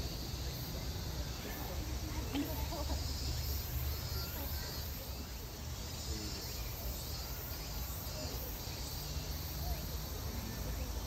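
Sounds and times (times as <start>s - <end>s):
faint chirps: 0.0s - 11.0s
insects chirring: 0.0s - 11.0s.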